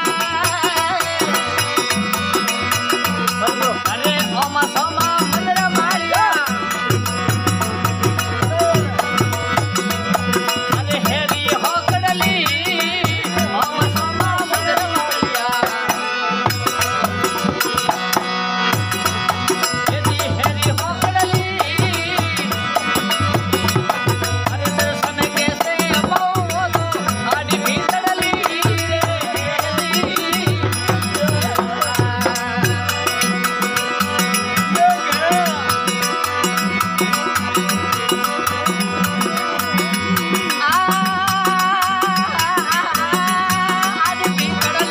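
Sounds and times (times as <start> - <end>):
hand drum beat: 0.0 - 44.9
rattling percussion: 0.0 - 44.9.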